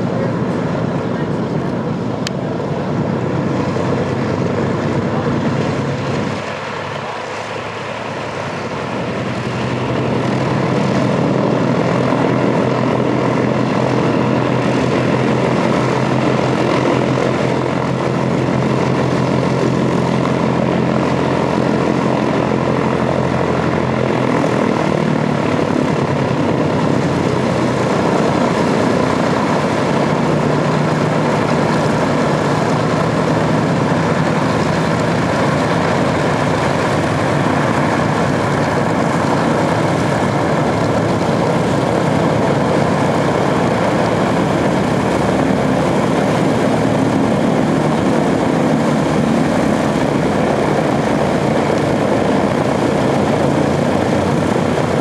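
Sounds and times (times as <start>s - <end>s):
aircraft radial engines running: 0.0s - 55.0s.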